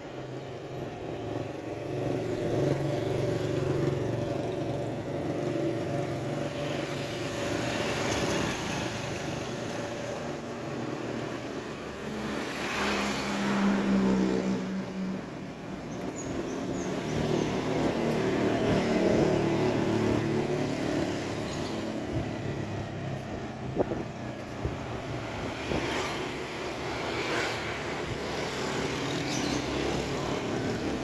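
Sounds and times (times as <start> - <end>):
vehicles passing on street: 0.0 - 31.0.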